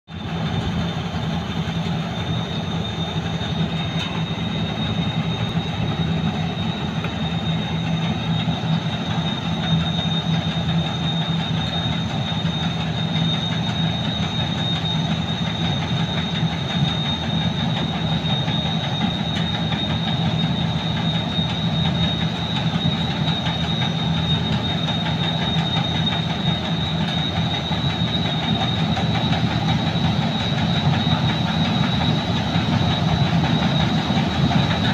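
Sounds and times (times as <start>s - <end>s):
combine harvester engine drone: 0.1s - 34.9s
high machine whine: 0.1s - 34.9s.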